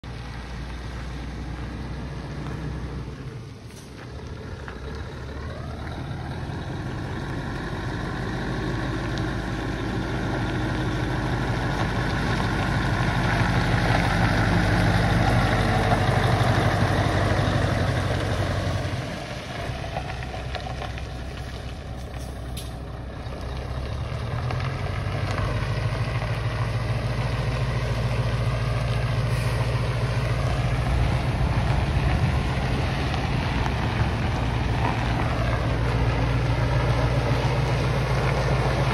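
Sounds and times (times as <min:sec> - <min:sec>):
diesel truck passing by: 0:00.0 - 0:38.9.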